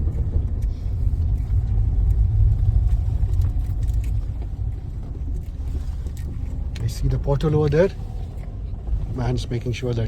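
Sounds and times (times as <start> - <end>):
low rumble of engine and tyres: 0.0 - 10.0.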